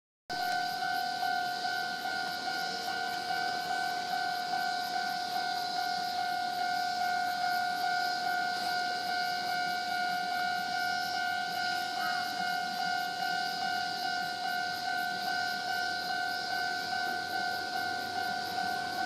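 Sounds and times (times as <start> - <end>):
high-pitched hiss: 0.3 - 19.0
level crossing alarm ringing: 0.3 - 19.0.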